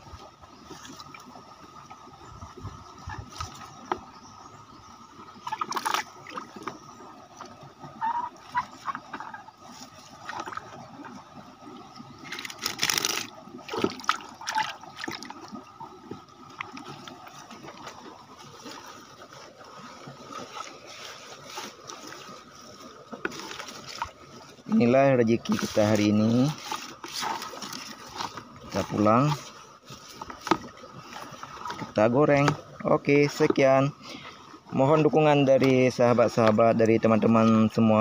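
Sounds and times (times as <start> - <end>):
water splashing in a bucket: 0.0 - 38.0.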